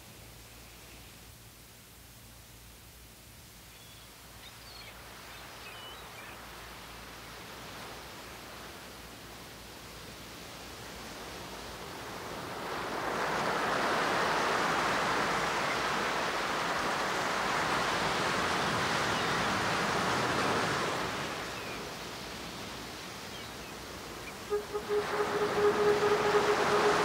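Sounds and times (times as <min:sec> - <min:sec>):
faint background hiss: 0:00.0 - 0:27.0
ocean waves washing in: 0:05.0 - 0:27.0.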